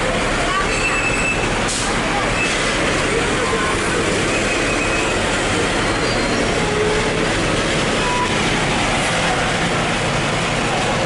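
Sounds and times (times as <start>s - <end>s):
diesel engine rumble: 0.0s - 11.0s.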